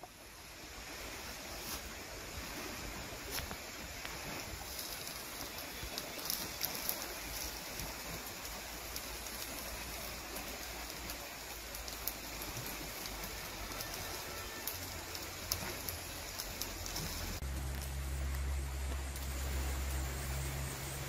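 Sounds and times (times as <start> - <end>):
stream rushing over its bed: 0.0 - 21.0.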